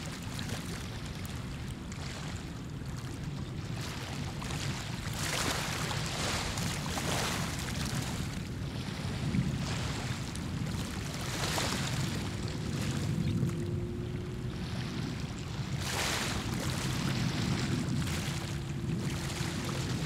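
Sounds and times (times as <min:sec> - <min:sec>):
gusty wind: 0:00.0 - 0:20.0
water noise: 0:00.0 - 0:20.0.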